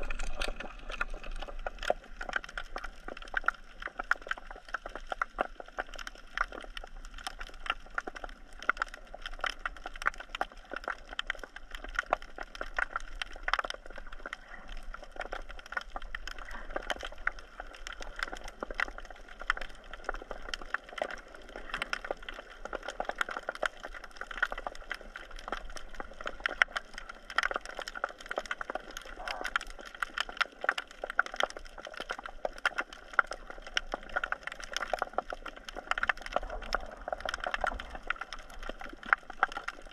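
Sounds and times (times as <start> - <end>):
snapping shrimp clicking underwater: 0.0 - 39.9.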